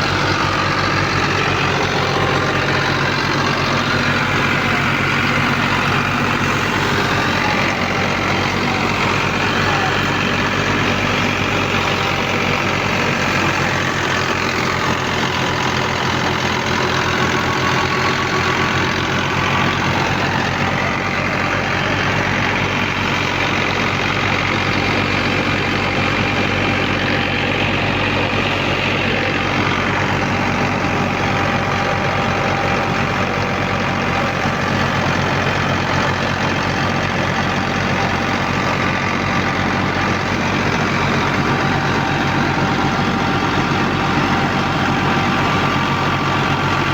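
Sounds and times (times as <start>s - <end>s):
harvesting machine engine running: 0.0s - 46.9s.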